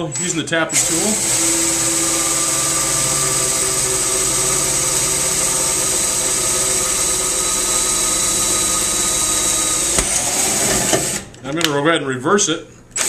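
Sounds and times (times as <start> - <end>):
power drill drilling sheet steel: 0.0 - 11.3.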